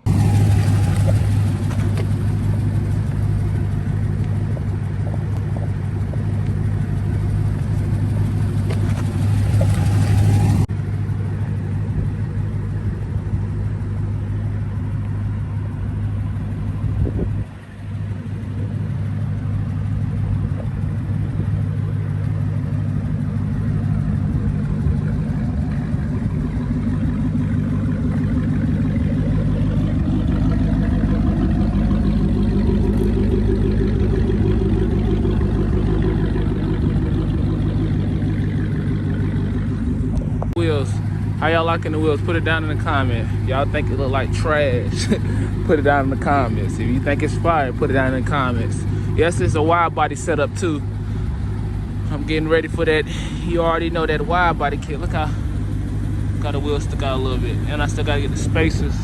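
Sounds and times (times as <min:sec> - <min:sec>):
car engine droning: 0:00.0 - 0:59.0.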